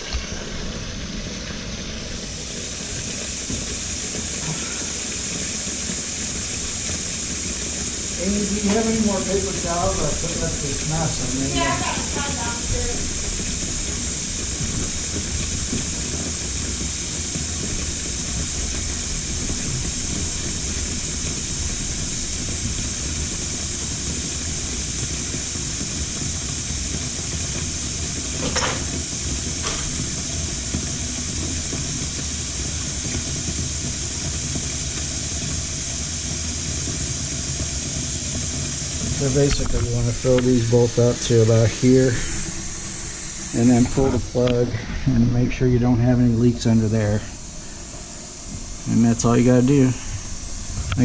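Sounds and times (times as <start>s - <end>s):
faucet running into sink: 0.0s - 47.8s.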